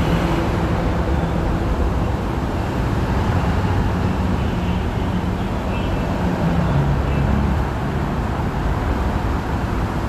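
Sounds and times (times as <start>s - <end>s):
traffic engines rumbling: 0.0s - 10.0s.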